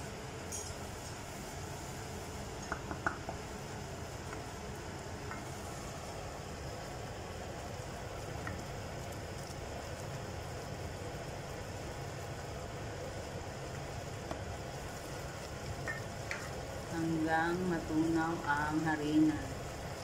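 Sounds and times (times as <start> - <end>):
butter and flour sizzling in pot: 0.0 - 20.0.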